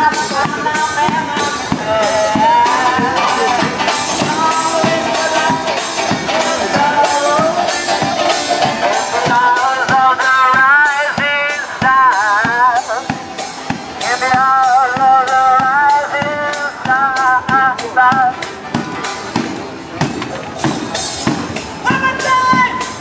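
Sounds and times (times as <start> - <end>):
banjo: 0.0 - 23.0
drum beating steadily: 0.0 - 23.0.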